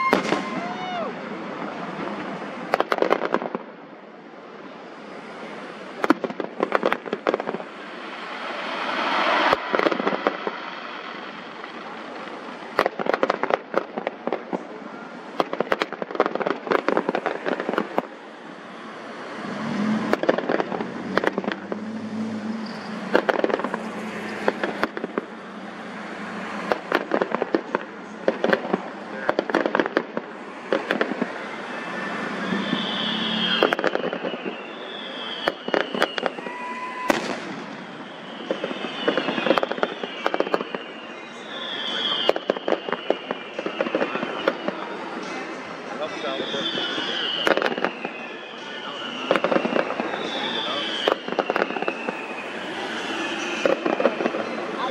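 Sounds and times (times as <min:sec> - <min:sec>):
falling firework whistles: 0:00.0 - 0:01.2, 0:04.7 - 0:54.9
deep fireworks booms: 0:00.0 - 0:03.8, 0:05.8 - 0:54.9
fireworks bangs and crackling: 0:00.0 - 0:54.9.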